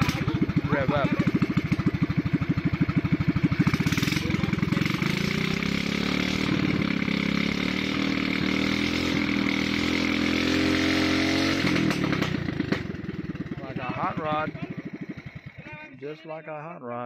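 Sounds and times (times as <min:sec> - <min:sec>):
small gasoline engine revving: 0:00.0 - 0:15.8.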